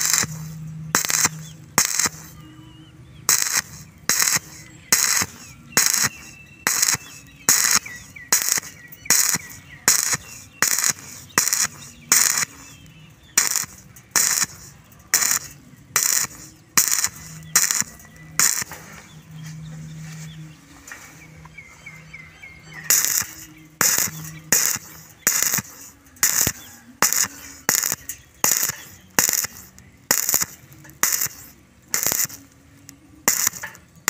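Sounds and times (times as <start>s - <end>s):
rhythmic rasping strokes: 0.0s - 34.0s.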